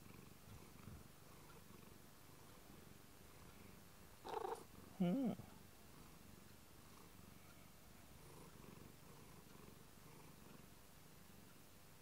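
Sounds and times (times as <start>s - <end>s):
cat purring faintly: 0.0s - 11.6s.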